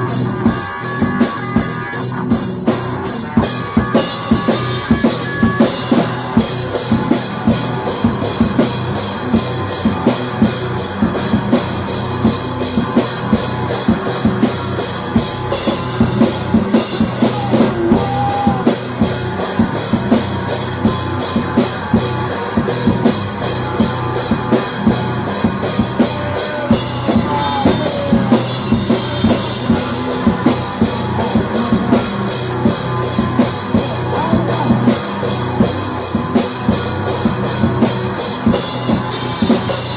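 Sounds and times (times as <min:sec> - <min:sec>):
drum kit steady beat: 0:00.0 - 0:39.9
rock music: 0:00.0 - 0:39.9.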